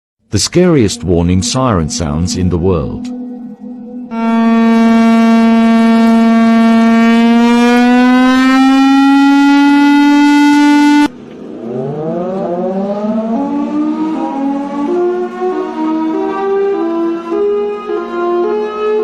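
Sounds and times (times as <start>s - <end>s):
air raid siren wailing: 0.5s - 19.0s.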